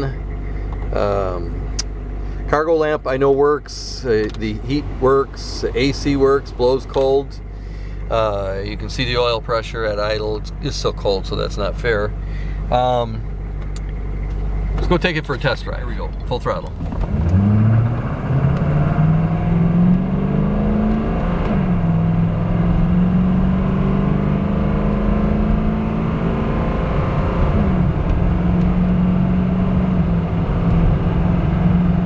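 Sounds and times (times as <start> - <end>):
diesel engine accelerating: 0.0 - 32.0.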